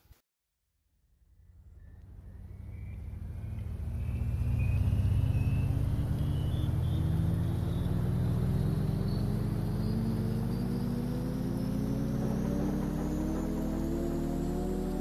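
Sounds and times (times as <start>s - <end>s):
droning synth pad: 1.2s - 15.0s
faint high rising tone: 1.2s - 15.0s.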